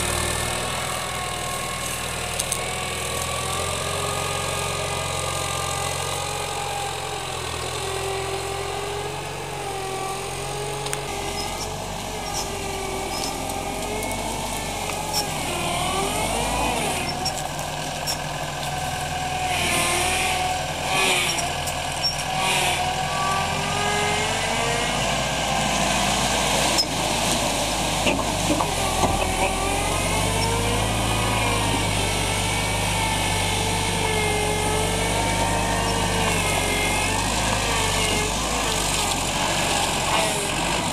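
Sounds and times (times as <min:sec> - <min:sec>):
forklift engine running: 0:00.0 - 0:40.9.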